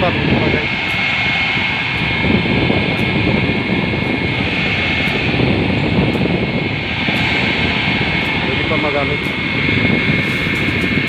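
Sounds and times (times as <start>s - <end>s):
blower motor whining: 0.0s - 11.0s.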